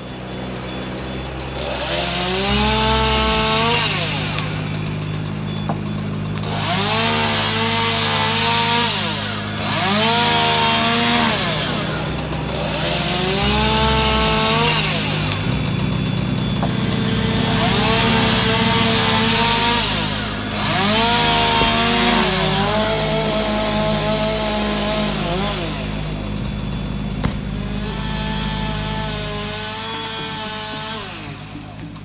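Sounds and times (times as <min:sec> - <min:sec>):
chainsaw cutting wood: 0:00.0 - 0:32.0
second engine running: 0:00.0 - 0:32.0.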